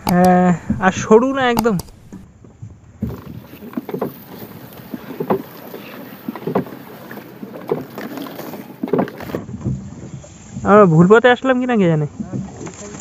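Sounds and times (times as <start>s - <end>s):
oars rowing through water: 0.0s - 13.0s.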